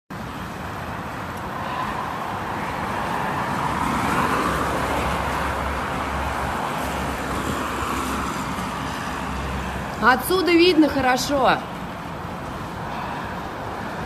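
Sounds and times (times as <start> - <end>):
road traffic noise: 0.1 - 14.0.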